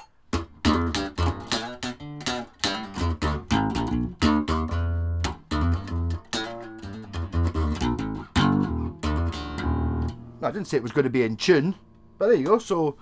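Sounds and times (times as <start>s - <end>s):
electric bass plucked notes: 0.3s - 12.6s.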